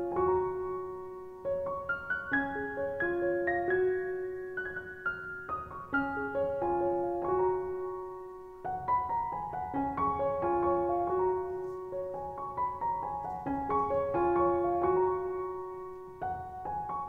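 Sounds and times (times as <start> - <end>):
slow gentle solo piano: 0.0 - 17.0.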